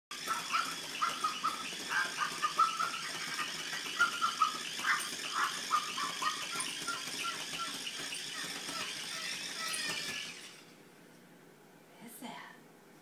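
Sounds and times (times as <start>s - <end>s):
small dogs yipping and whining: 0.2s - 10.6s.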